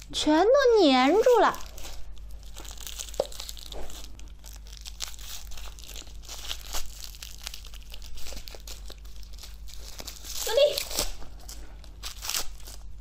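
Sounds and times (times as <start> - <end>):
plastic wrapper crinkling: 0.6 - 13.0.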